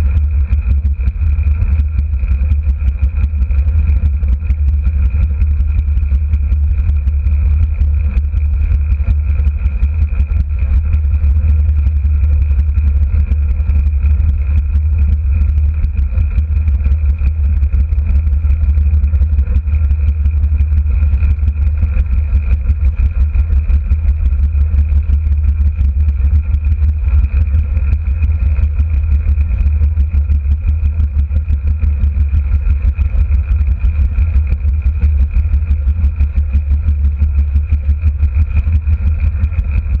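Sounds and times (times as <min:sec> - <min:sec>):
high whine: 0:00.0 - 0:40.0
wind rumble: 0:00.0 - 0:40.0.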